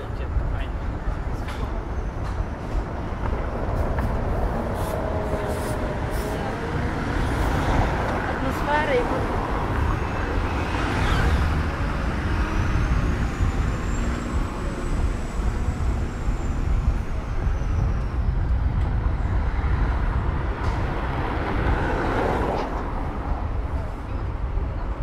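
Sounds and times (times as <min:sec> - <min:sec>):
passing vehicles rumbling: 0:00.0 - 0:25.0.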